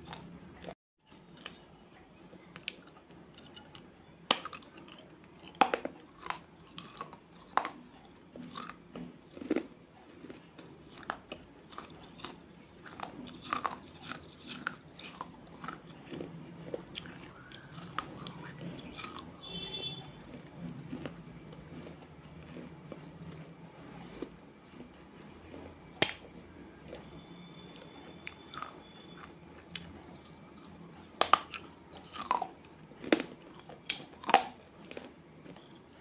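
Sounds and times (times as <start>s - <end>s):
grinding chews: 0.0s - 36.0s
crunchy biting: 3.4s - 35.8s.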